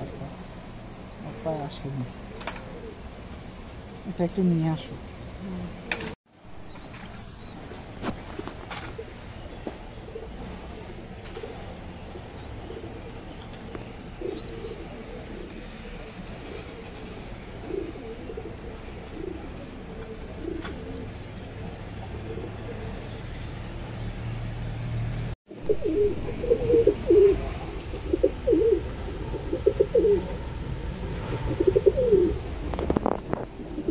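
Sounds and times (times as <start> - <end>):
pigeons cooing: 0.0 - 3.0, 8.7 - 23.4, 24.4 - 33.9.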